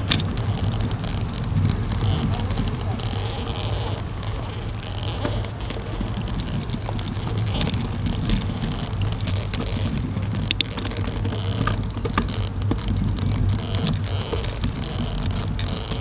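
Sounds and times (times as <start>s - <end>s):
small clicks and rattles: 0.0s - 16.0s
tyre and wind rumble: 0.0s - 16.0s.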